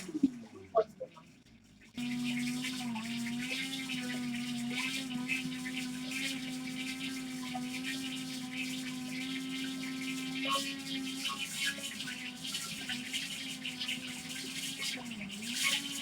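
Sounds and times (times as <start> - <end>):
blender jar rattling and churning: 0.0 - 16.0
blender motor humming: 0.0 - 16.0.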